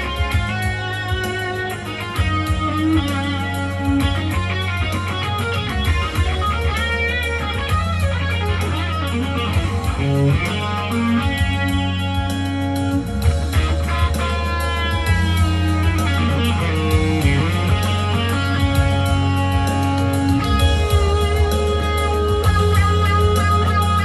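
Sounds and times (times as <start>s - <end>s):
bass notes: 0.0s - 24.0s
drums: 0.0s - 24.0s
electric guitar lead melody: 0.0s - 24.0s.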